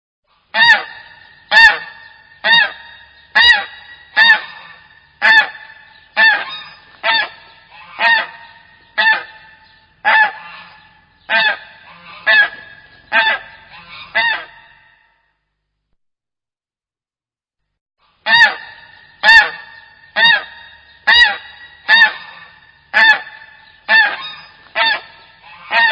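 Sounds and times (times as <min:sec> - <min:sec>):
goose honking: 0:00.3 - 0:15.1, 0:18.0 - 0:25.9.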